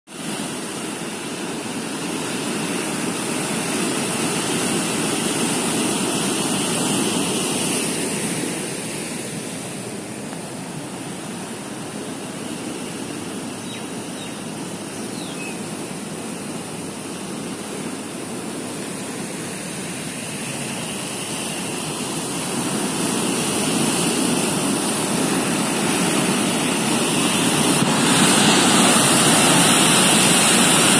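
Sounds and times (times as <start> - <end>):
river rushing: 0.1 - 30.9.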